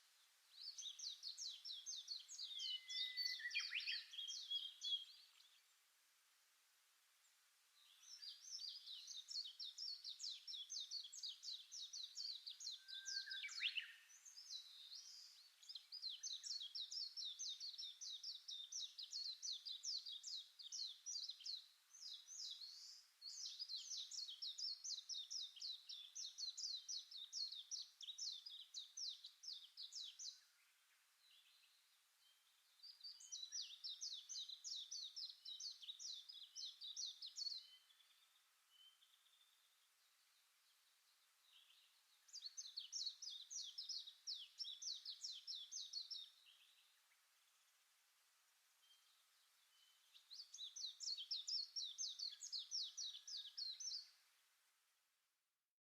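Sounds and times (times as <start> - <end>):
bird trilling song: 0.5 - 5.6, 7.8 - 30.7, 31.3 - 39.7, 41.4 - 47.1, 48.8 - 54.3.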